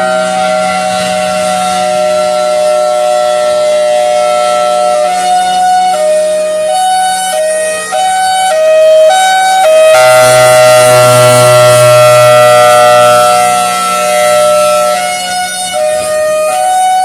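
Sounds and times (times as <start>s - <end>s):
two-tone siren wailing: 0.0s - 17.0s.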